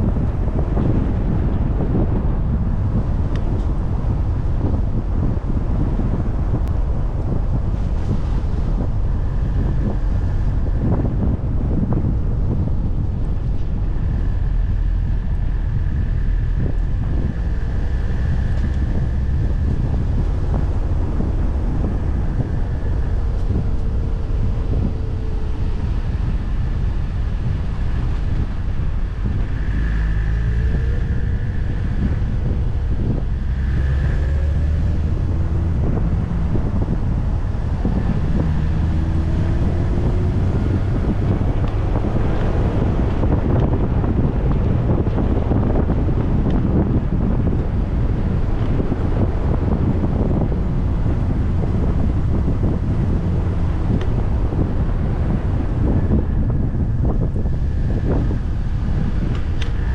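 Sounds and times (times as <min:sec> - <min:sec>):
car road and engine rumble: 0:00.0 - 0:59.9
wind buffeting microphone: 0:00.0 - 0:59.9.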